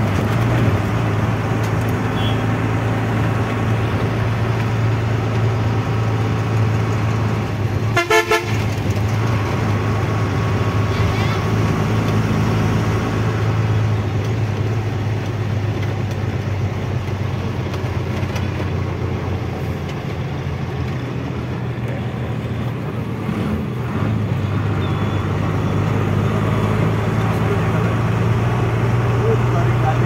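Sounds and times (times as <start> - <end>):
road noise: 0.0 - 30.0
truck engine droning: 0.0 - 30.0.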